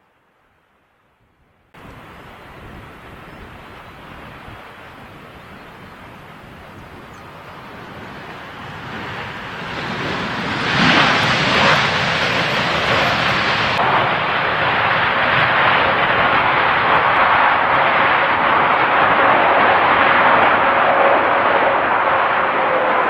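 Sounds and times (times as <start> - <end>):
jet airliner engine rush: 1.8 - 23.0.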